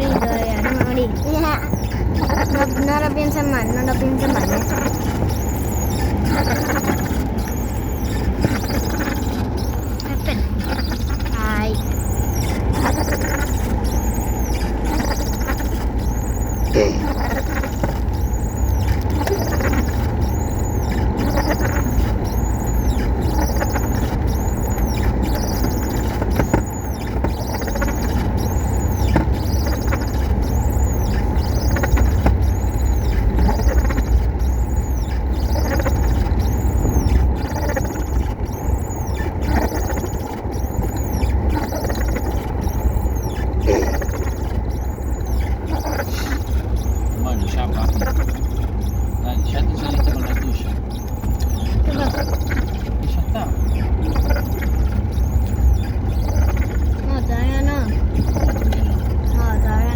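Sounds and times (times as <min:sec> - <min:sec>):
high squeak rising and falling: 0:00.0 - 0:59.9.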